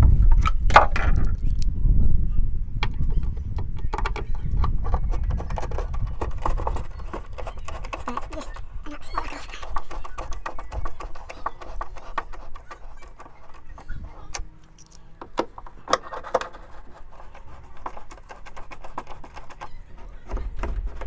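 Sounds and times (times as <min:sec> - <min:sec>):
hand tools clicking and knocking: 0:02.8 - 0:21.0.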